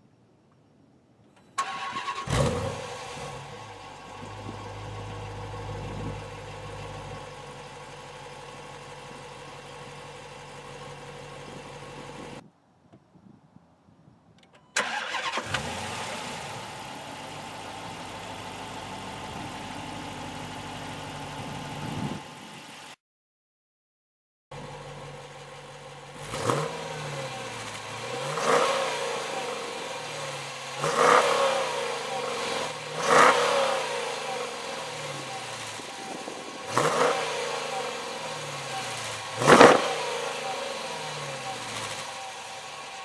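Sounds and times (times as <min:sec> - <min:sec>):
car engine starting and revving: 0:01.6 - 0:12.4, 0:14.8 - 0:22.9, 0:24.6 - 0:43.0
car engine idling: 0:02.0 - 0:12.4, 0:14.8 - 0:22.9, 0:24.5 - 0:43.0.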